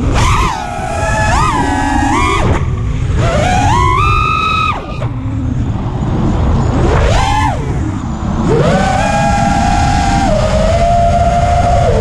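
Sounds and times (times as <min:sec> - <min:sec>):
quadcopter motors whining: 0:00.0 - 0:12.0
wind rushing over camera: 0:00.0 - 0:12.0.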